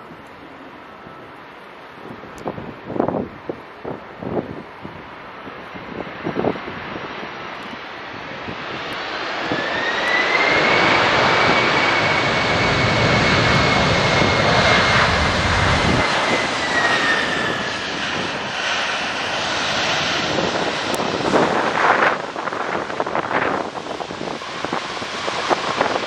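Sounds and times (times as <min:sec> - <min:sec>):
jet engines in reverse thrust: 0:00.1 - 0:26.0.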